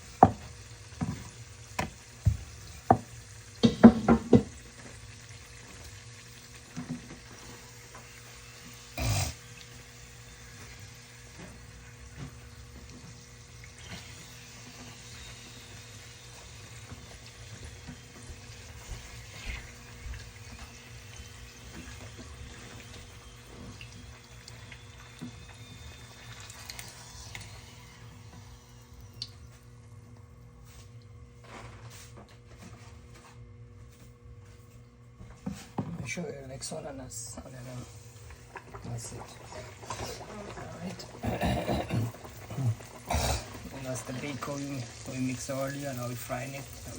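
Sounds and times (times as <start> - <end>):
dough sizzling in hot oil: 0.0 - 34.8, 35.5 - 46.9.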